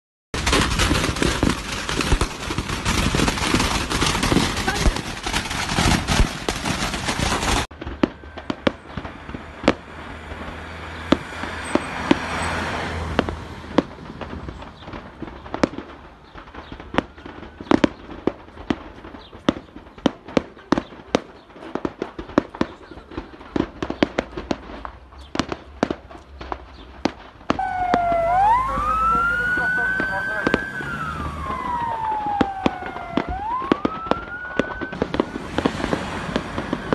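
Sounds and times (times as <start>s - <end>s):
fireworks bangs and pops: 0.3s - 36.9s.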